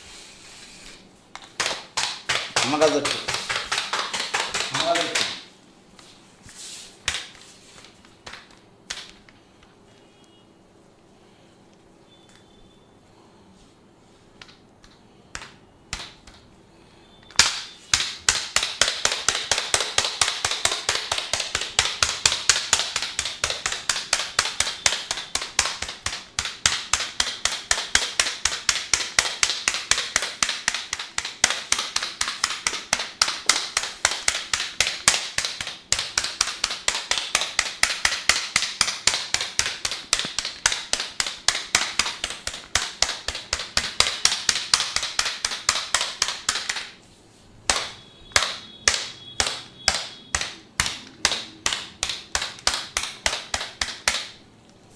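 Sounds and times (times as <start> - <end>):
percussive massage taps: 1.3 - 6.1, 7.0 - 9.3, 14.4 - 16.5, 17.3 - 47.0, 47.7 - 54.4.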